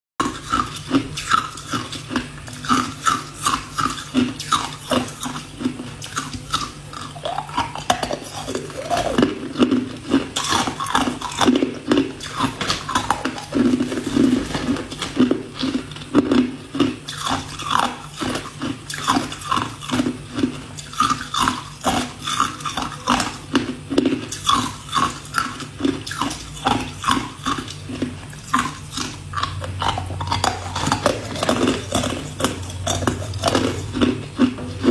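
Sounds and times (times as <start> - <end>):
ice cubes crunched by teeth: 0.2 - 34.9.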